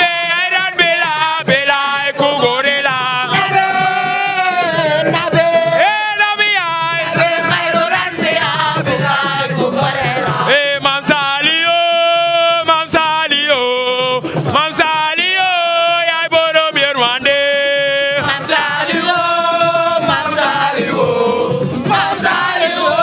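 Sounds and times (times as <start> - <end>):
sharp percussive taps: 0.0 - 17.4, 18.2 - 23.0
man singing a devotional chant: 0.0 - 23.0.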